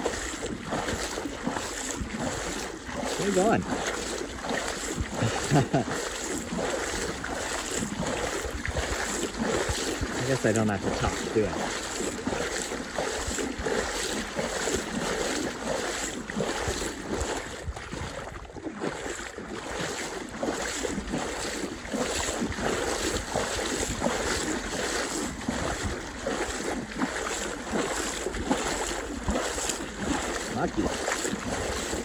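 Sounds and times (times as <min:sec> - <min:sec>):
footsteps wading through shallow water: 0:00.0 - 0:32.0.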